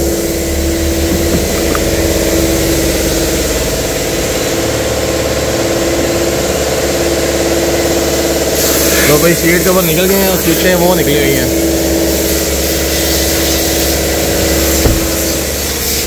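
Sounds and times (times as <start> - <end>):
motor humming steadily: 0.0 - 16.0.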